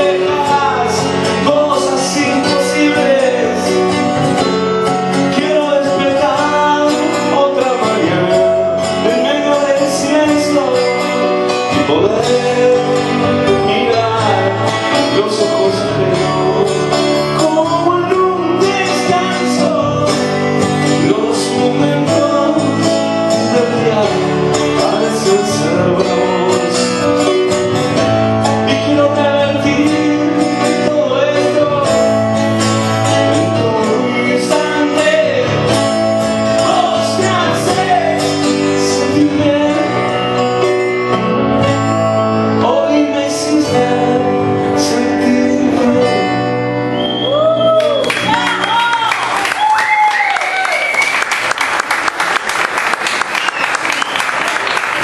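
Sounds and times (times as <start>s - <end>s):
strummed acoustic guitar: 0.0s - 47.0s
man singing: 0.0s - 47.7s.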